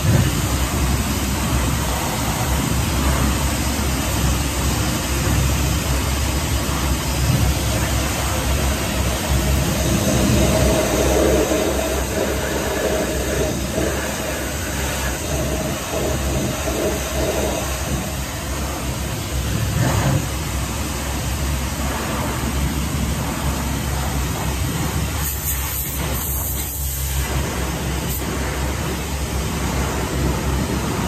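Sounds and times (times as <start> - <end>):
pressure washer jet hissing: 0.0 - 31.0
washer motor humming: 0.0 - 31.0.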